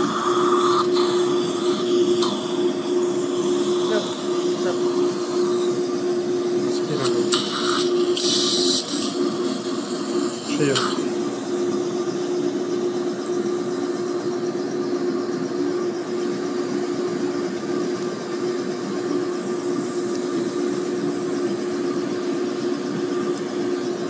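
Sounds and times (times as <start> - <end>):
suction aspirator hum and hiss: 0.0 - 24.0.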